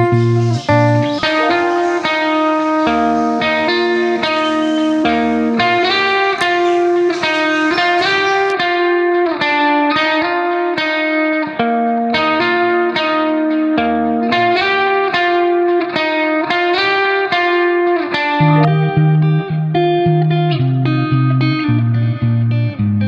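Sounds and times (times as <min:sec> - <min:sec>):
guitar melody: 0:00.0 - 0:23.0.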